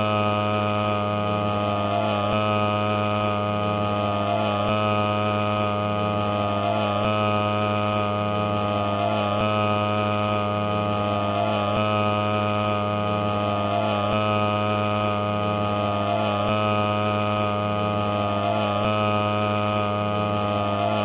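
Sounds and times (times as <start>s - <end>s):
droning hum: 0.0s - 21.0s.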